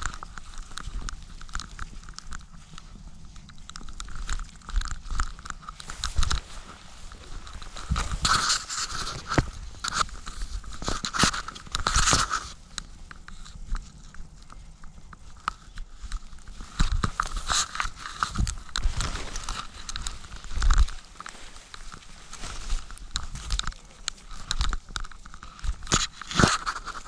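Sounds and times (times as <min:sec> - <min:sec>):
crackling and rustling of gear: 0:00.0 - 0:27.0
wind buffeting camera: 0:00.0 - 0:27.0.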